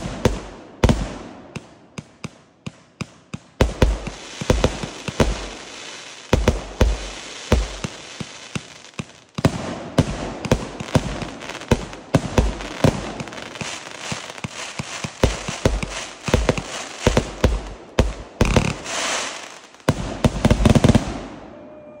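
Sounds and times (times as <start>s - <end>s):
fireworks launches and bursts: 0.0s - 21.7s
fireworks crackle: 3.4s - 21.3s.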